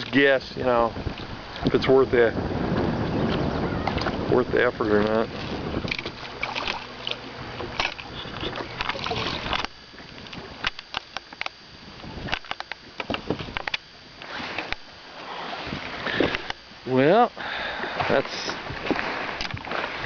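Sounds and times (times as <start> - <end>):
wind and water rushing: 0.0 - 11.0, 11.6 - 20.0.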